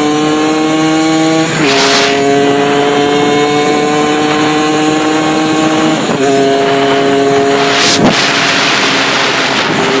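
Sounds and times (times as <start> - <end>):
two-stroke moped engine: 0.0 - 10.0
loud rushing noise: 1.1 - 10.0.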